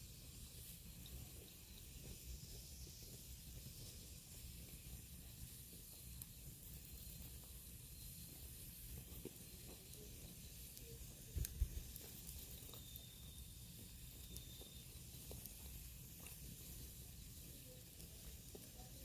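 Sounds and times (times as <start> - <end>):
fire crackles: 0.0 - 19.0
firewood hissing and sizzling: 0.0 - 19.0.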